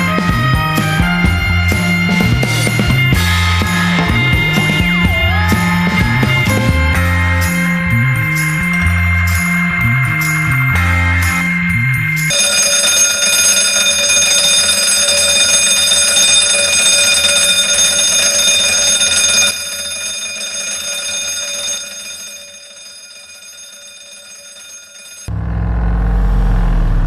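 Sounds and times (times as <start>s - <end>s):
bell ringing: 0.0s - 25.4s.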